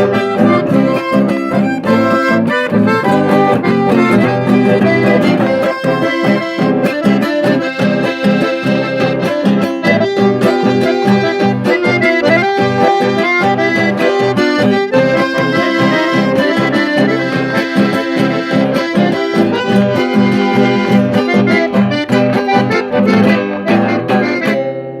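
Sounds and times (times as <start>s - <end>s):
accordion music with beat: 0.0s - 25.0s.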